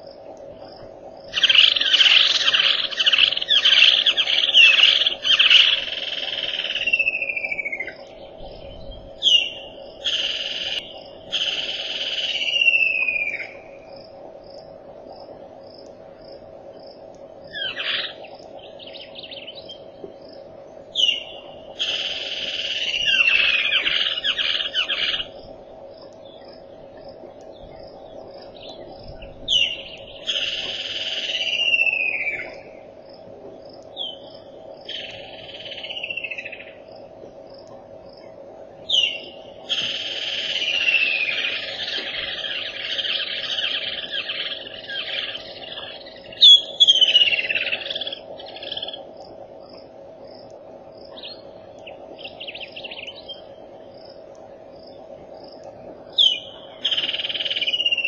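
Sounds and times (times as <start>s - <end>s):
birds singing: 0.0s - 14.6s, 16.8s - 37.0s, 38.2s - 49.4s, 51.0s - 58.0s
insect ticking calls: 0.0s - 58.0s
steady low hum: 0.0s - 58.0s.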